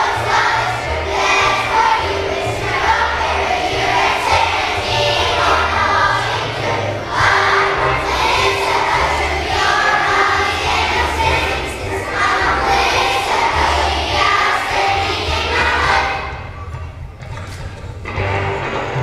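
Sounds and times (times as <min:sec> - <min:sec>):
children's choir singing: 0:00.0 - 0:16.9
instrumental accompaniment: 0:00.0 - 0:19.0.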